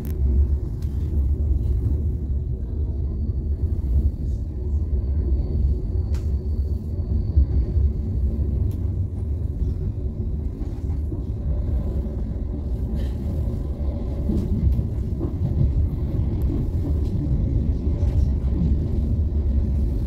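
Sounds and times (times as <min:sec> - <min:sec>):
train rumbling inside cabin: 0:00.0 - 0:20.0.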